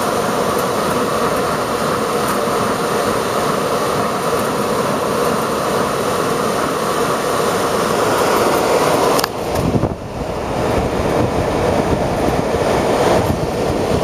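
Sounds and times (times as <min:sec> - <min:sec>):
air handler blower rushing air: 0:00.0 - 0:14.0.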